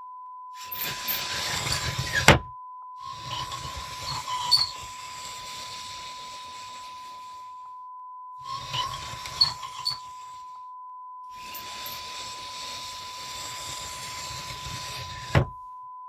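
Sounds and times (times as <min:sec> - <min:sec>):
wooden sliding door scraping: 0:00.6 - 0:07.5, 0:08.4 - 0:10.5, 0:11.4 - 0:15.6.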